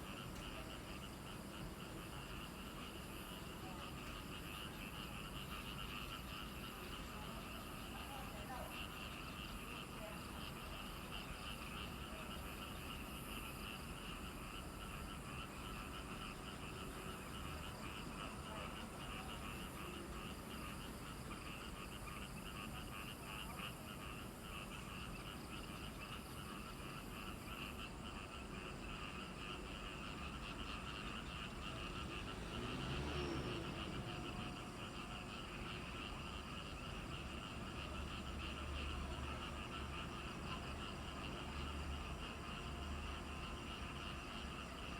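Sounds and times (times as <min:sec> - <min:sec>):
frogs calling: 0:00.0 - 0:44.9.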